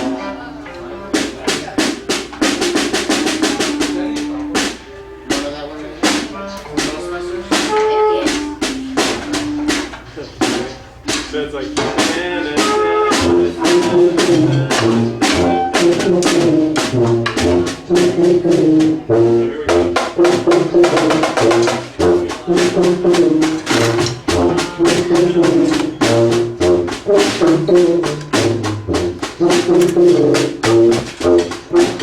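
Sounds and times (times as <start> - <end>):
brass band playing: 0.0 - 32.0
steady drumbeat: 0.0 - 32.0.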